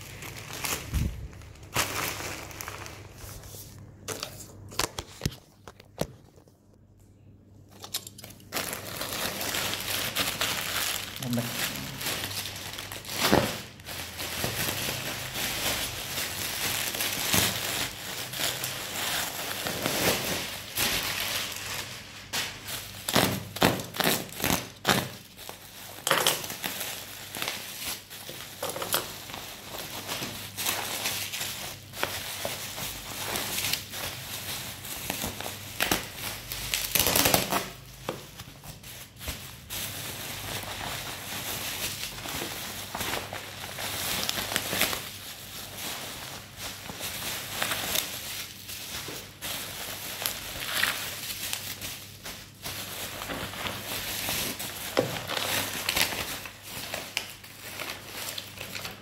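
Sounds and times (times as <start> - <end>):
packaging crinkling: 0.0 - 6.6, 7.7 - 59.0.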